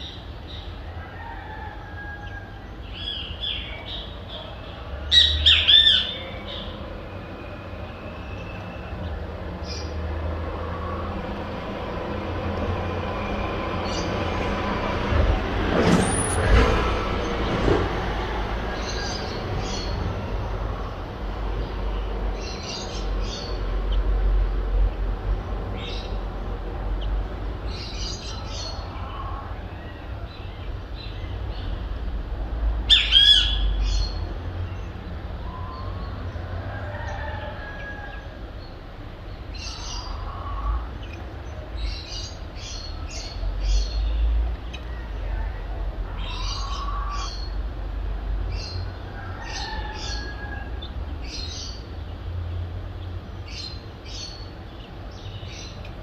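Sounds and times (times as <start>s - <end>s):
birds chirping and calling: 0.0s - 11.7s, 17.4s - 20.8s, 21.4s - 24.2s, 24.8s - 31.8s, 32.8s - 45.2s, 46.0s - 47.7s, 48.4s - 52.4s, 53.0s - 56.0s
low hum of city traffic: 0.0s - 56.0s.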